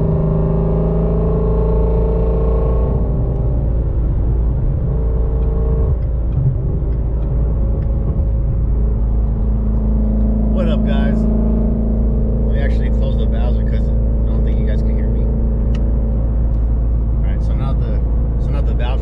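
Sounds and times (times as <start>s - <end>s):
car engine and exhaust drone: 0.0s - 19.0s.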